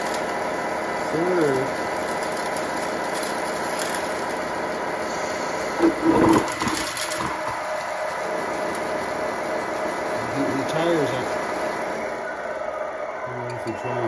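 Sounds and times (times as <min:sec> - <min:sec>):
electric motor whirring: 0:00.0 - 0:12.5
wheels spinning on concrete: 0:00.0 - 0:12.8.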